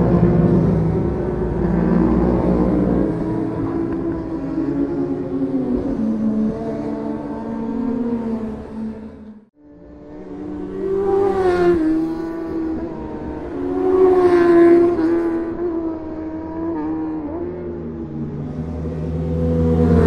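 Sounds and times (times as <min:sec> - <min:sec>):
racing motorcycles passing: 0:00.0 - 0:20.0.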